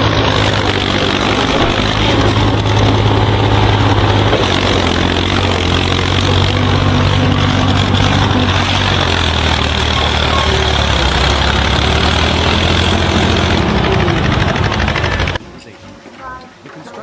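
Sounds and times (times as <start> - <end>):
heavy engine humming: 0.0 - 17.0.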